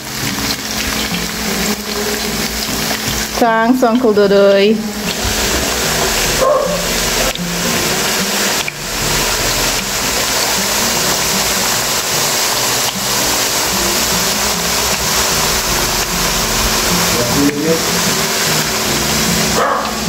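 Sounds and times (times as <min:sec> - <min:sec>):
oil sizzling and bubbling: 0:00.0 - 0:20.0.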